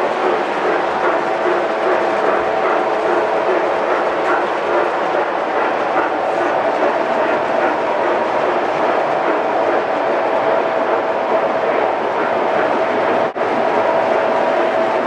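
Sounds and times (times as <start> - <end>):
mechanical rattle and hum: 0.0 - 15.0.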